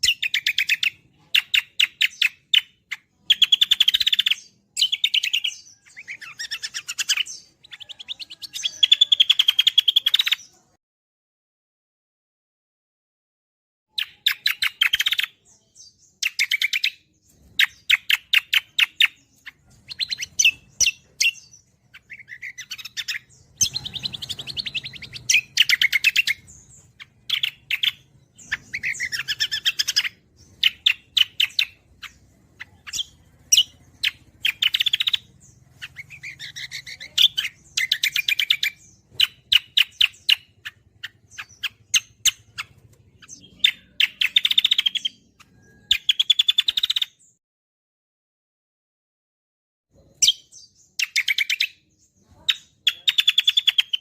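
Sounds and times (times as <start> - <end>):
songbirds chirping rapidly: 0.0 - 10.8, 13.9 - 47.4, 49.9 - 54.0.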